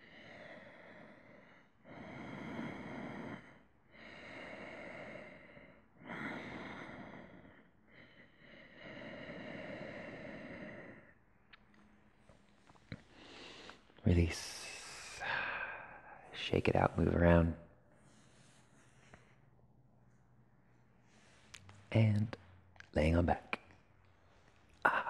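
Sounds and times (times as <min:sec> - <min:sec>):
man breathing deeply: 0:00.0 - 0:16.4, 0:17.0 - 0:21.8, 0:24.3 - 0:25.0.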